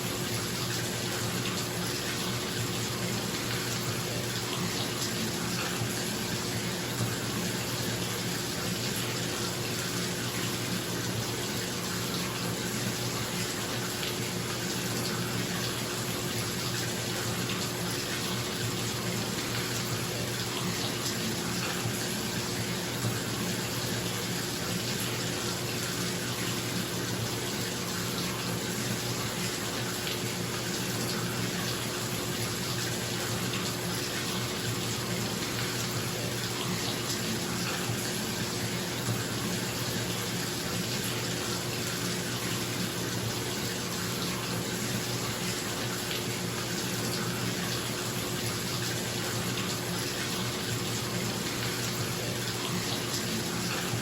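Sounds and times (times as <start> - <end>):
tap water running into tub: 0.0 - 54.0.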